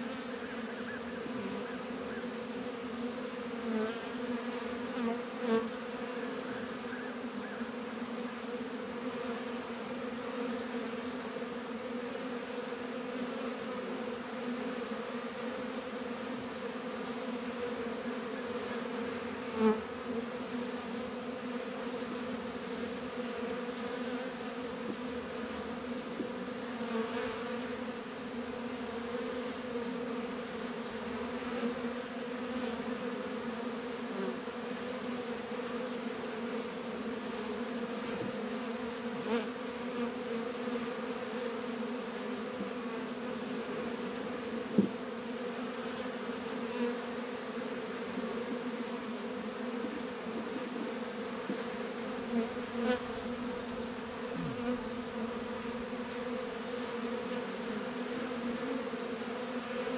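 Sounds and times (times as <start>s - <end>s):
honey bees humming: 0.0s - 59.9s.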